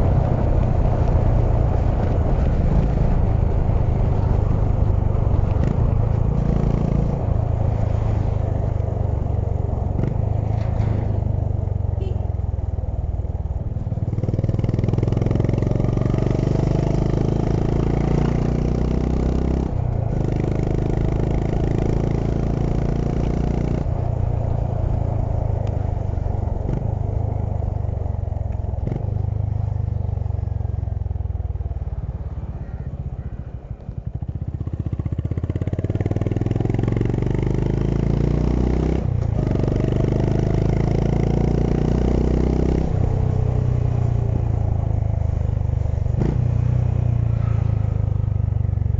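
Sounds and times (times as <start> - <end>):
motorcycle engine accelerating: 0.0 - 12.2, 12.8 - 48.9.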